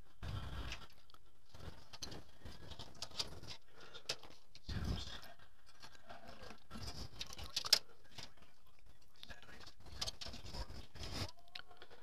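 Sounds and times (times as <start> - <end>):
handling clicks and rustling: 0.7 - 11.4.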